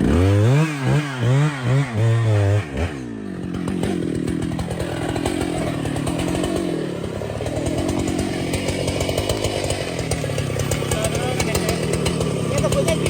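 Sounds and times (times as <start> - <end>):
chainsaw cutting a tree: 0.0 - 13.0.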